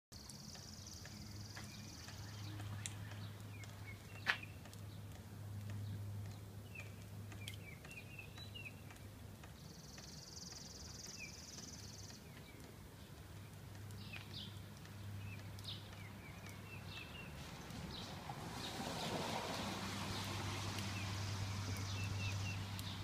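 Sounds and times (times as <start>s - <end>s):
birds chirping: 0.2s - 19.1s.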